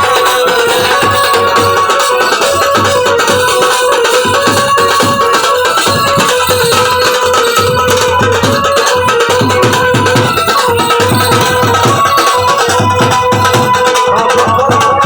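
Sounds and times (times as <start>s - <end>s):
loud music with fast beat: 0.0s - 15.0s.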